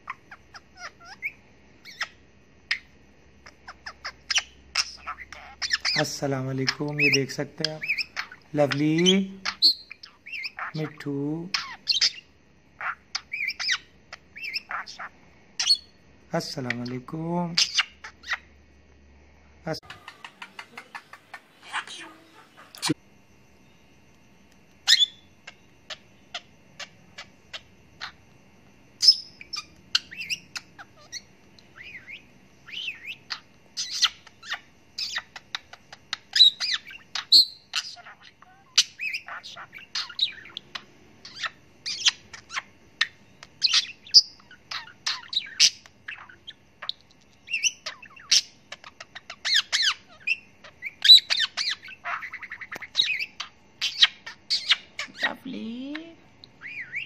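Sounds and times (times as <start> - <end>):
budgie chattering: 0.0 - 18.5, 19.8 - 23.0, 24.8 - 57.0.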